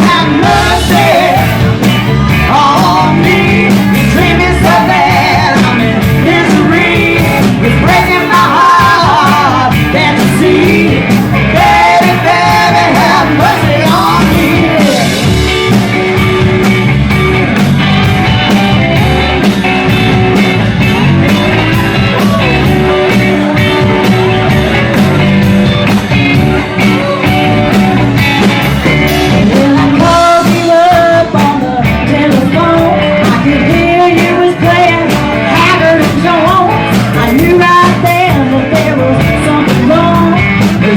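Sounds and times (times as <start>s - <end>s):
rock and roll music with singing: 0.0s - 40.9s.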